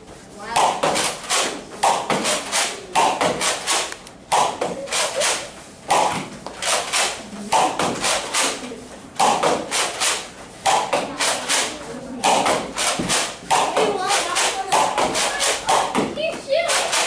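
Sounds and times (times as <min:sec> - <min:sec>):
foam balls bouncing: 0:00.4 - 0:03.7, 0:04.3 - 0:08.4, 0:09.2 - 0:17.0.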